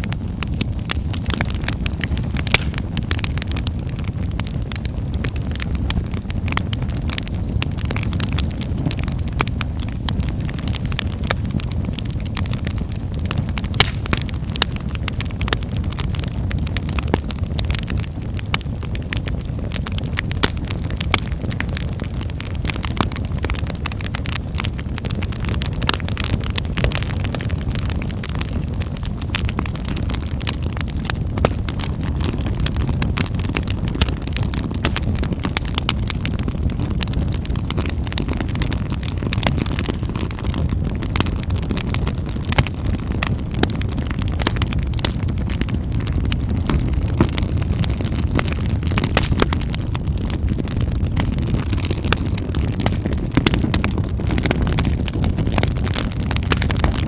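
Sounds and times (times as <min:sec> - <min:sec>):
fire popping and snapping: 0:00.0 - 0:57.0
flames rumbling: 0:00.0 - 0:57.0
wood fire crackling: 0:00.0 - 0:57.0.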